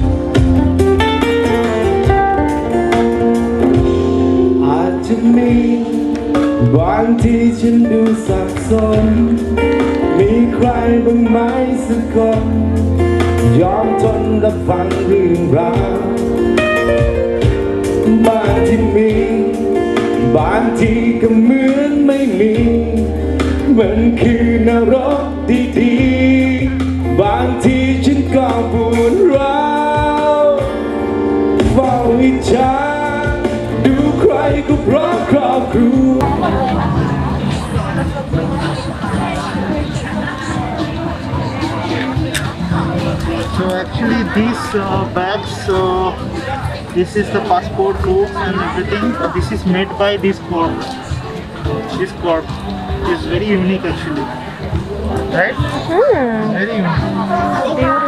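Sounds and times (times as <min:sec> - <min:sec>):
instrumental accompaniment with bass: 0:00.0 - 0:58.0.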